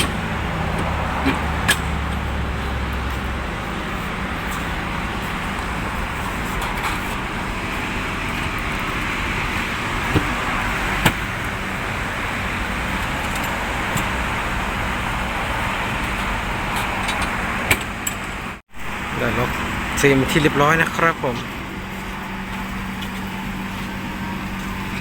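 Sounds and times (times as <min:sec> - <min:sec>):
refrigerated truck engine hum: 0:00.0 - 0:25.0.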